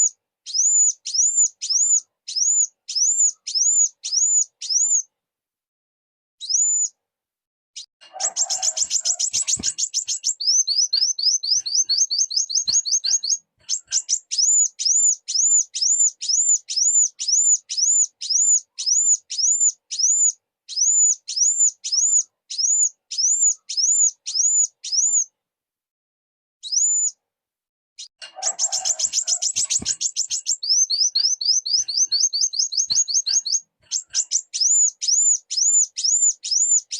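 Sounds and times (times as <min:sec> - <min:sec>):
bird calling with high thin notes: 0:00.0 - 0:05.1, 0:06.4 - 0:07.0, 0:07.8 - 0:25.4, 0:26.6 - 0:27.2, 0:28.0 - 0:36.9.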